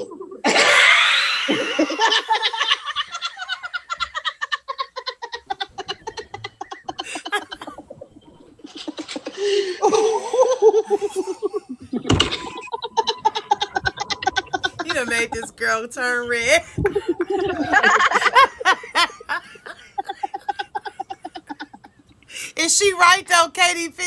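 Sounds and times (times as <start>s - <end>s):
people laughing: 0.0s - 22.2s.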